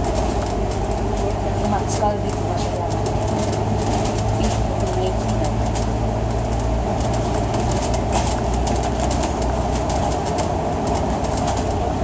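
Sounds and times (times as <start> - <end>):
bus body rattling: 0.0 - 12.0
bus engine and road drone: 0.0 - 12.0.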